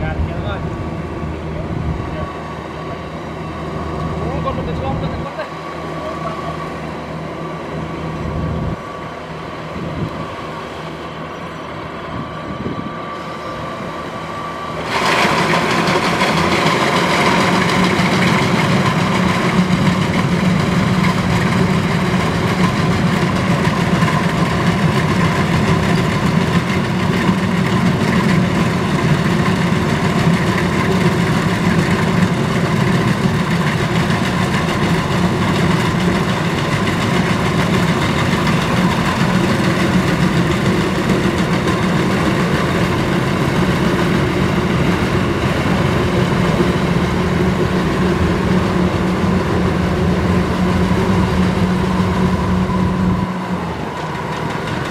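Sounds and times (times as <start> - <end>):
combine harvester droning: 0.0 - 54.9.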